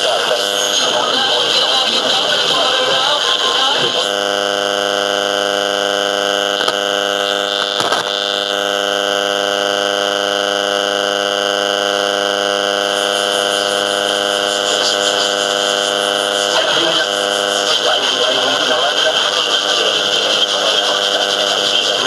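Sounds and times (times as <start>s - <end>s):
radio static buzz: 0.0s - 22.0s.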